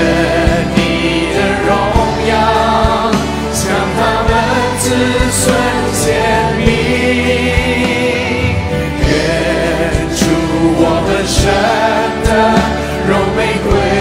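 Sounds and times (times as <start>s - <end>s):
band accompaniment: 0.0s - 14.0s
man singing lead: 0.0s - 14.0s
voices singing along: 0.0s - 14.0s.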